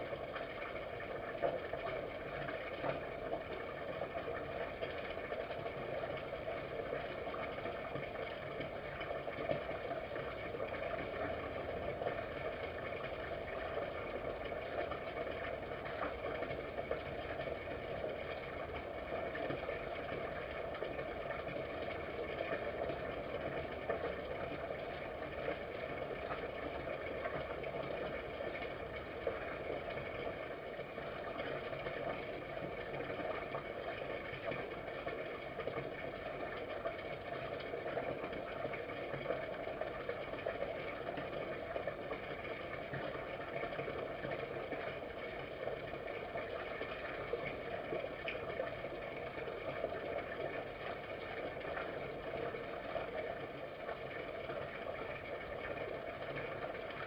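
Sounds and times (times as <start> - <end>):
background rumble and hiss: 0.0 - 57.0.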